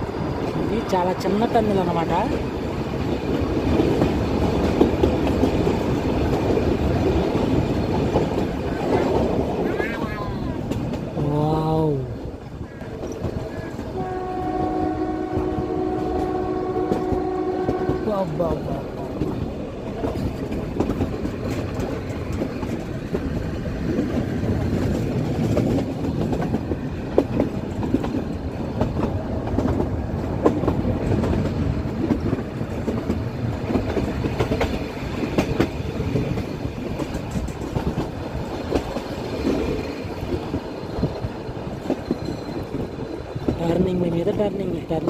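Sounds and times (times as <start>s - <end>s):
wheels rumbling on rail: 0.0s - 45.0s.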